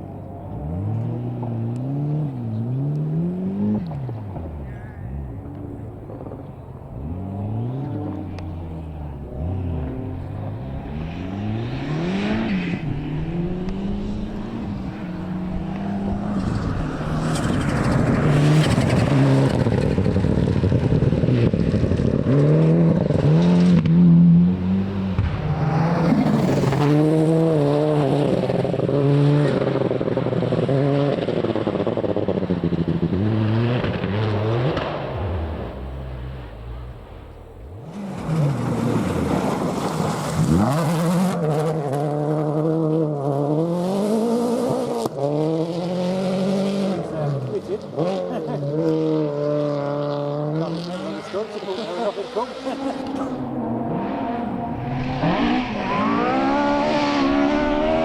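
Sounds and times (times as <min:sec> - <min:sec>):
rally car engine revving: 0:00.1 - 0:58.0.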